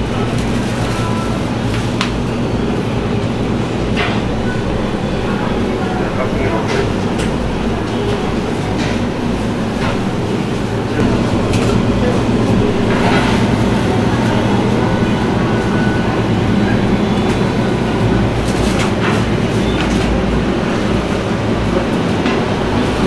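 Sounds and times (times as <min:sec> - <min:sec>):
refrigerator compressor hum: 0:00.0 - 0:23.0.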